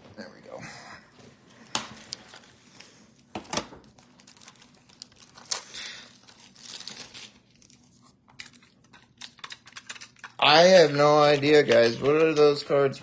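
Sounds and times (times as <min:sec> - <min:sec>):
plastic wrappers crinkling: 0:01.7 - 0:13.0.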